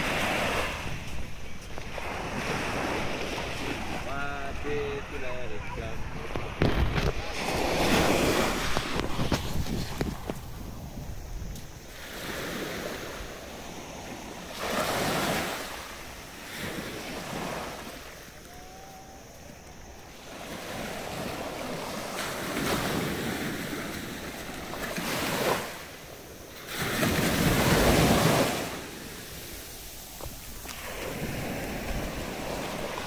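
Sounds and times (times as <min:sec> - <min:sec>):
small waves breaking on beach: 0:00.0 - 0:33.0.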